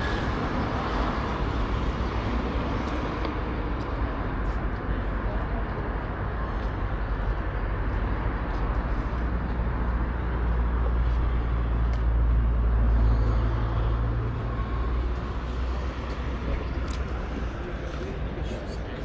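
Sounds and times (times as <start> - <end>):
vehicle engine rumble passing: 0.0 - 19.0.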